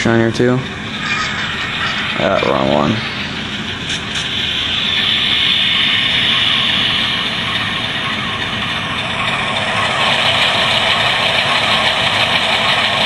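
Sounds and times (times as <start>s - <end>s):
model locomotive diesel idling: 0.0s - 13.0s.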